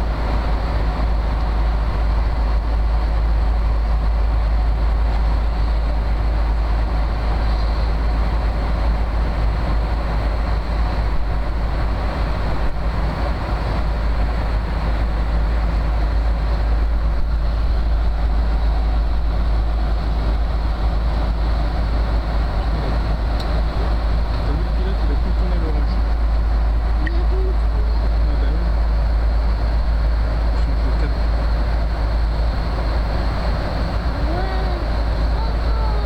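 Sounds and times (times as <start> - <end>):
airliner cabin noise: 0.0 - 36.0.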